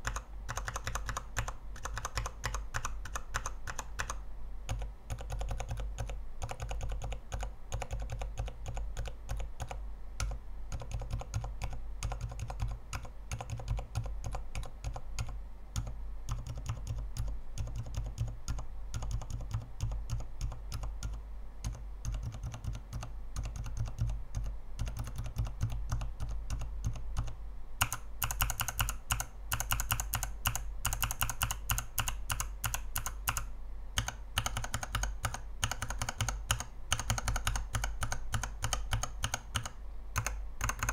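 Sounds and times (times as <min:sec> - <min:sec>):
mechanical keyboard switches clacking: 0:00.0 - 0:40.9.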